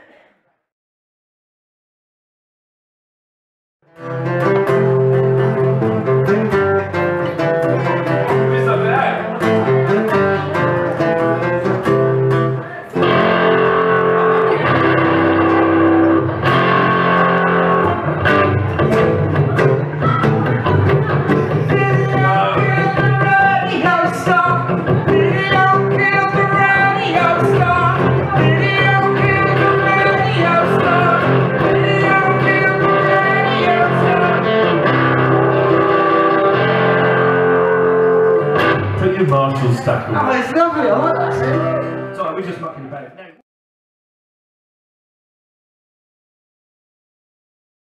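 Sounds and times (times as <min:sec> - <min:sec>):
acoustic guitars strumming chords: 0:03.9 - 0:42.5.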